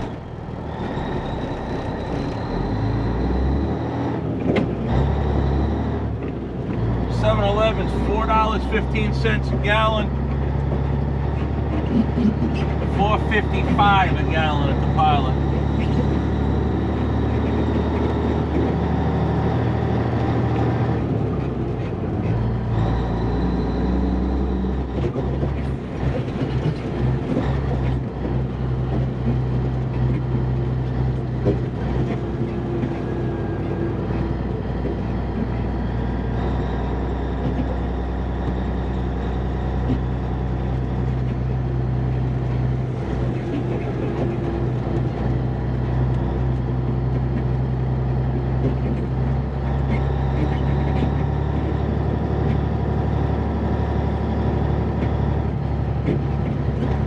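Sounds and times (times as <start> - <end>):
truck diesel engine at low speed: 0.0 - 57.0.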